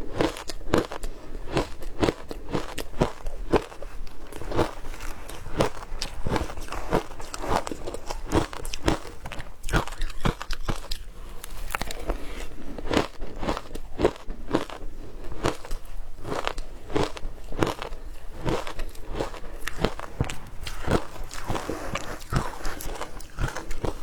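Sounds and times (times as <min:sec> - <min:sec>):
ice crunching between teeth: 0:00.1 - 0:24.0.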